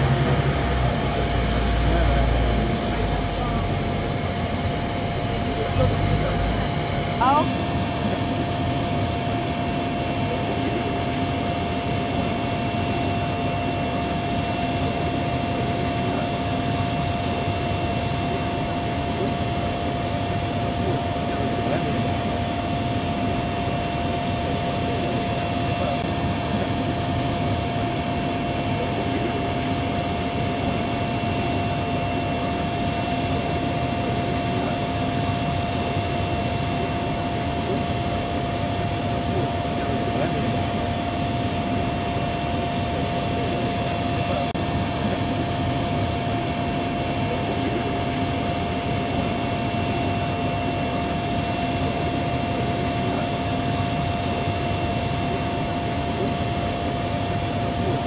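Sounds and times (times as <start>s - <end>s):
aircraft turbine whine: 0.0s - 58.0s.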